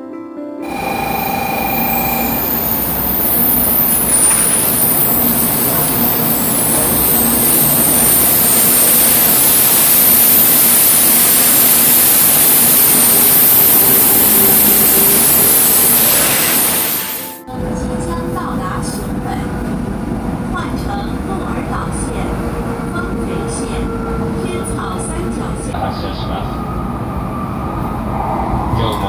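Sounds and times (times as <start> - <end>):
train rushing past: 0.6 - 29.0.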